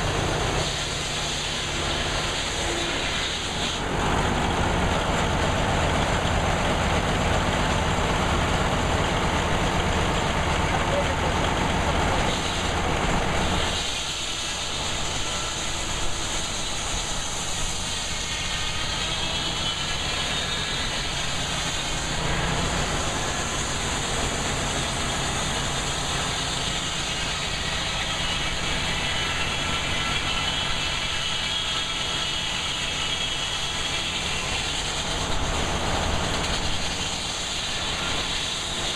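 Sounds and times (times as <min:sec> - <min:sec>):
engine chugging: 0:00.0 - 0:38.9.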